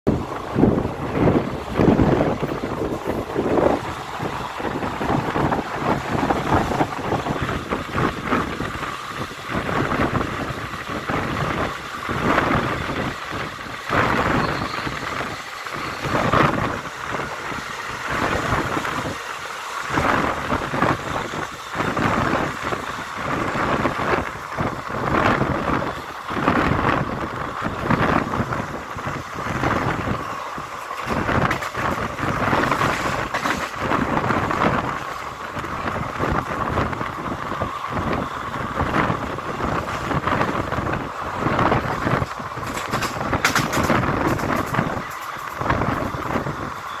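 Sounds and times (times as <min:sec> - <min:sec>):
train wheels rumbling on track: 0:00.0 - 0:47.0
wind buffeting microphone: 0:00.1 - 0:47.0.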